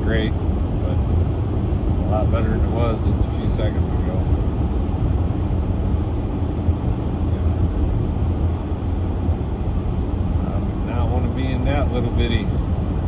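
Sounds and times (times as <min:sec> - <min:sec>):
low engine rumble: 0:00.0 - 0:13.0
road and tyre noise: 0:00.0 - 0:13.0.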